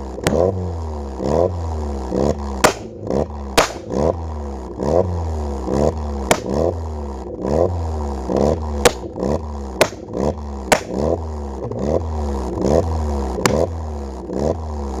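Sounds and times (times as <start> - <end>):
car engine revving: 0.0 - 15.0
exhaust pops: 0.0 - 15.0.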